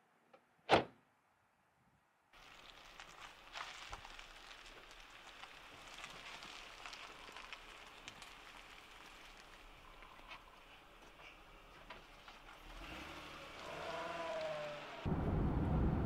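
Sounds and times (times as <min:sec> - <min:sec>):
tyres crackling on gritty pavement: 0:02.3 - 0:16.0.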